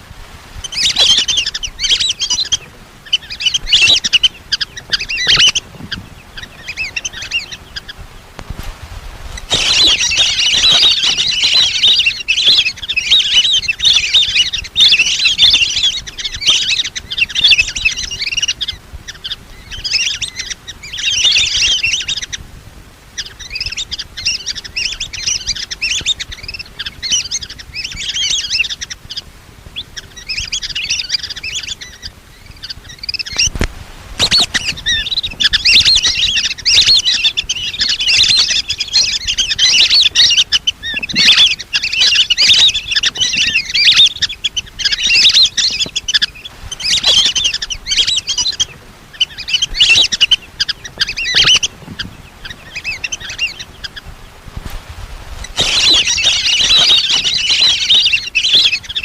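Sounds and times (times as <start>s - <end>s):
ducks whistling chirps: 0.0s - 8.4s, 9.3s - 22.4s, 23.1s - 54.7s, 55.4s - 59.0s.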